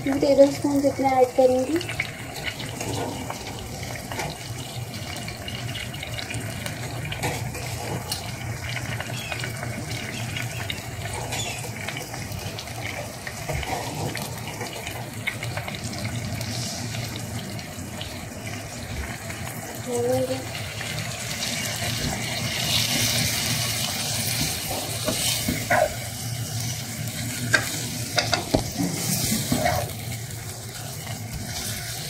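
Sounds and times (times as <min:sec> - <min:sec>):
meat sizzling in oil: 0:00.0 - 0:32.0.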